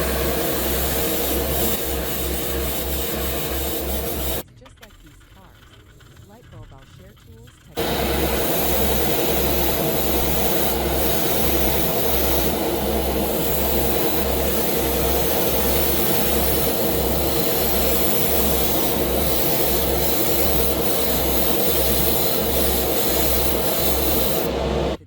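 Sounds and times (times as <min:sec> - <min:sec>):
machine running: 0:00.0 - 0:04.4, 0:07.8 - 0:25.0.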